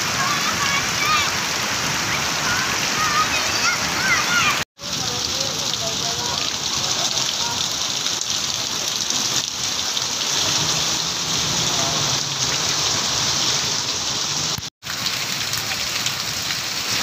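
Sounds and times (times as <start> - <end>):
heavy rain on standing water: 0.0 - 17.0.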